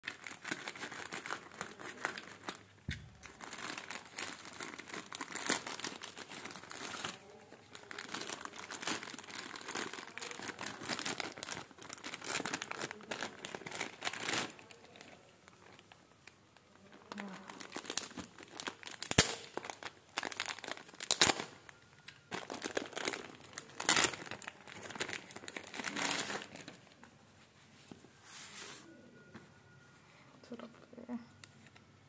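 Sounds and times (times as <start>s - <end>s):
plastic bag crinkling and tearing: 0.0s - 27.0s.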